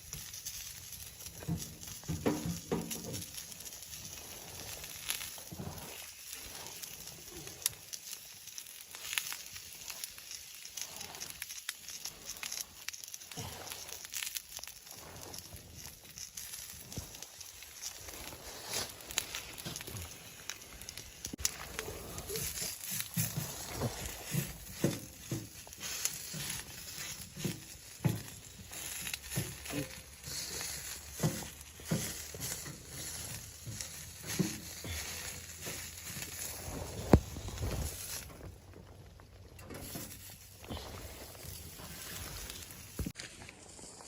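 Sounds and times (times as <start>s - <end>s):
steady hiss: 0.0s - 38.4s
soft knocks and crunching rustles: 0.0s - 44.0s.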